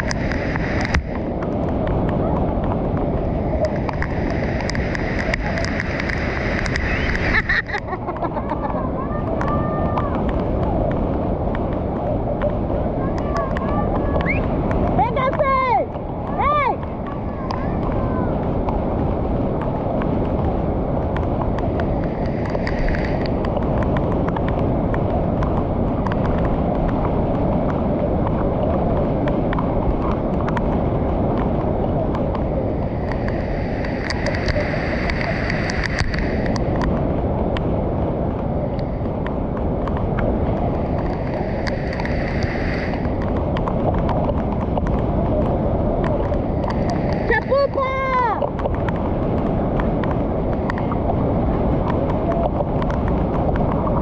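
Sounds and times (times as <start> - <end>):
floodwater rushing over weir: 0.0 - 54.0.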